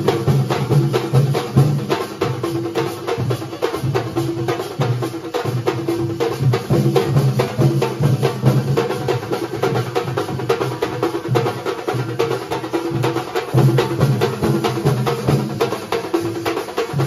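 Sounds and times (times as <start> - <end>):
percussion ensemble drumming: 0.0 - 17.0.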